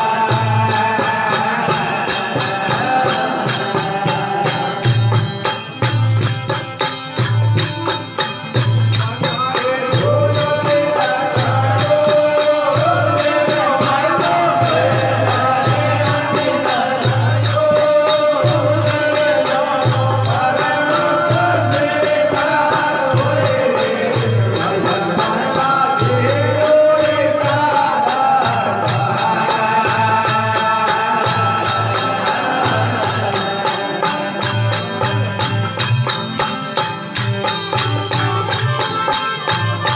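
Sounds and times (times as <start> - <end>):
jingling metal percussion: 0.0 - 39.9.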